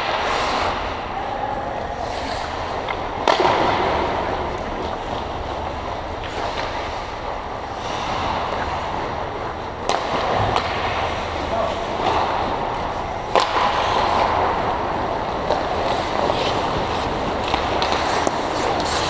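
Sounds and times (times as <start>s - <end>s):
sharp crack: 0.0s - 19.0s
skate blades scraping ice: 0.0s - 19.0s.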